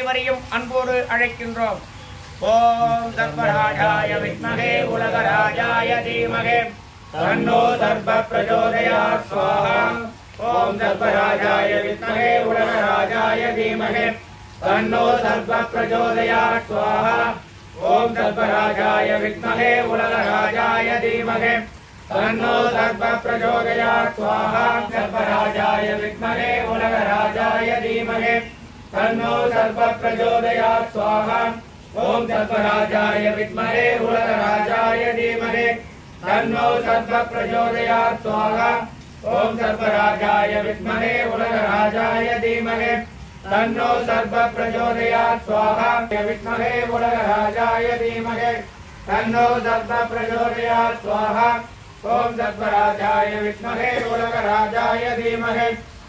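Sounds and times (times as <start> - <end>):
men chanting mantras: 0.0 - 56.0.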